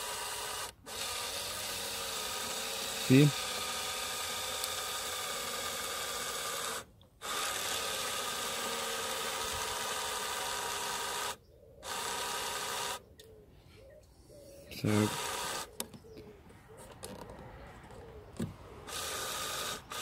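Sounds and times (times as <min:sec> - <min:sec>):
mirror motor whirring: 0:00.0 - 0:13.0, 0:14.8 - 0:16.0, 0:17.0 - 0:20.0.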